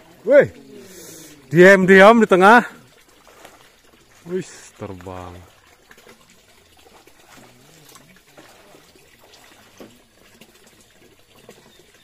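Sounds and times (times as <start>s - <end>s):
trickle of water: 0.0s - 12.0s.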